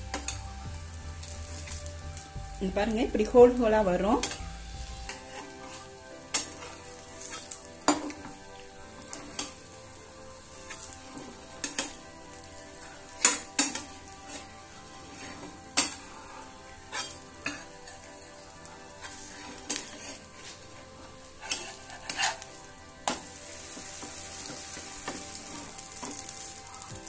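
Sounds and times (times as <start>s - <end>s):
batter sizzling on griddle: 0.0s - 9.6s, 10.3s - 27.0s.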